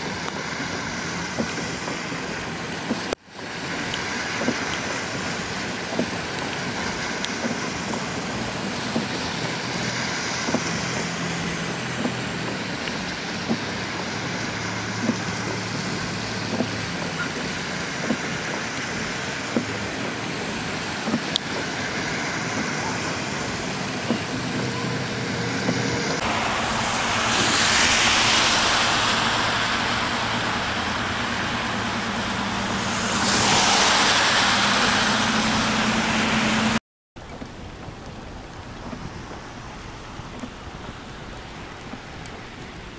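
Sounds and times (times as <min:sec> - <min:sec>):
low engine hum: 0:00.0 - 0:42.9
rain hiss: 0:00.0 - 0:42.9
trucks splashing through water: 0:00.0 - 0:42.9.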